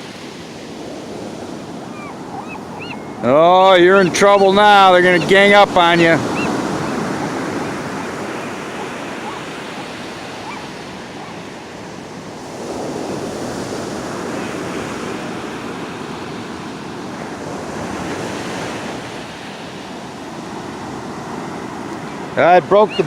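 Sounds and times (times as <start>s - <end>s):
wind on microphone: 0.0s - 19.1s
ocean surf breaking: 0.0s - 23.0s.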